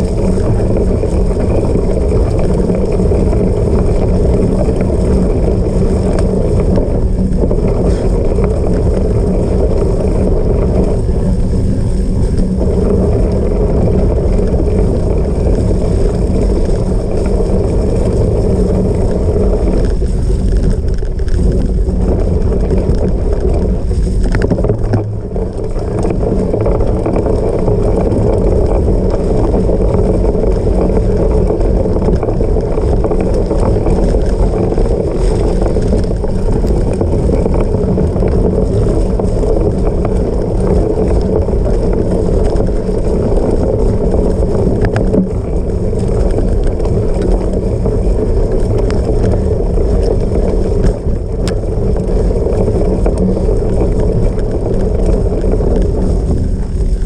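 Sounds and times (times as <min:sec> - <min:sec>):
bike tyres rumbling on rough ground: 0:00.0 - 0:57.0
wind rushing over microphone: 0:00.0 - 0:57.0.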